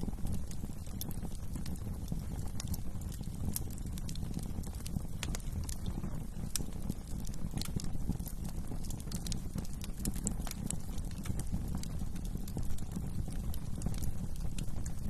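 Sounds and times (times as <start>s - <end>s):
fire flames rumbling: 0.0s - 15.0s
wood crackling and popping: 0.0s - 15.0s.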